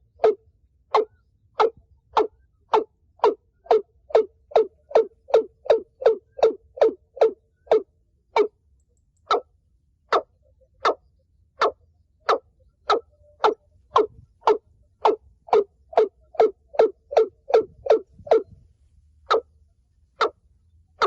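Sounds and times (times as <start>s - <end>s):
bird calling hollow notes: 0.0s - 8.6s, 9.2s - 9.5s, 10.1s - 18.6s, 19.2s - 19.5s, 20.2s - 20.4s.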